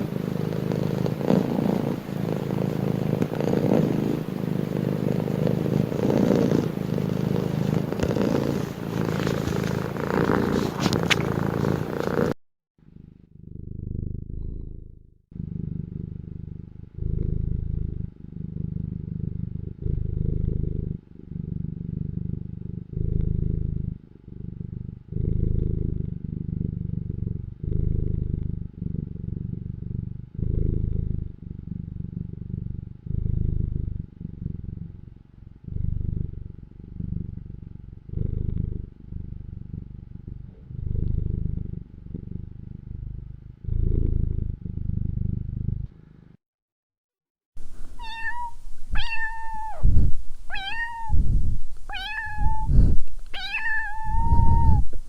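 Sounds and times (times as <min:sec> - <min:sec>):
cat purring: 0:00.0 - 0:46.4, 0:47.6 - 0:55.0.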